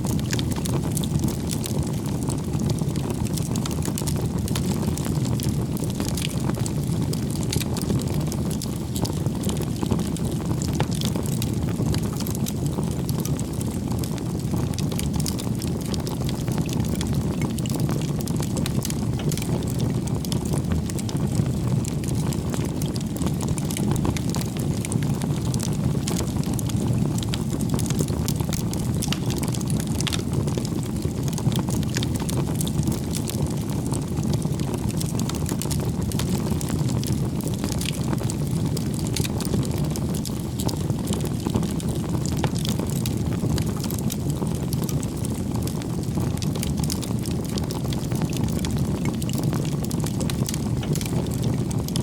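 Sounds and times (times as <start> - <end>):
low rumble of flames: 0.0 - 52.0
wood fire crackling and popping: 0.0 - 52.0.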